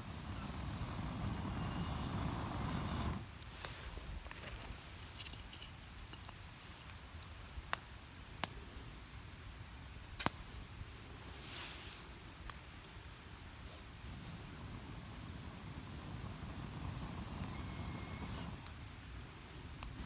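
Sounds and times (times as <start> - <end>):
faint low hiss: 0.0 - 20.0
firewood crackling and popping: 0.0 - 20.0.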